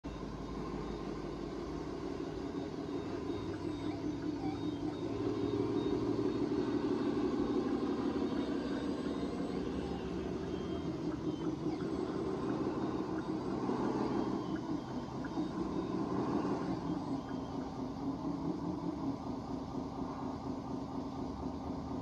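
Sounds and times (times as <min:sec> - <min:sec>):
electric motor and gear hum: 0:00.1 - 0:22.0.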